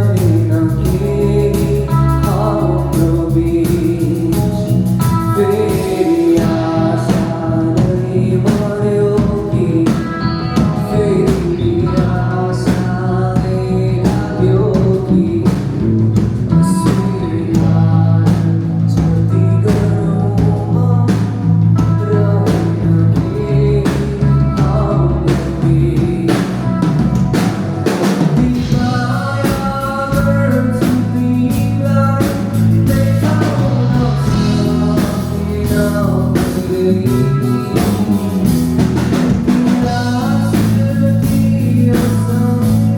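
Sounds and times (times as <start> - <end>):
drum kit beat: 0.0 - 42.9
live band playing: 0.0 - 42.9
person singing: 0.0 - 42.9.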